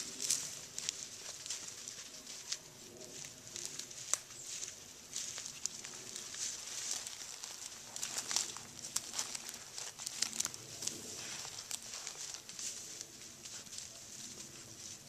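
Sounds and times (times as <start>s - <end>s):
footsteps crunching through dry leaves: 0.0s - 15.0s.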